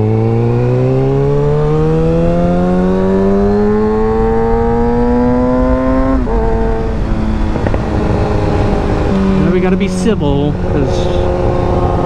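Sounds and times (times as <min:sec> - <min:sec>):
motorcycle engine accelerating: 0:00.0 - 0:12.0
wind rumble: 0:02.0 - 0:12.0.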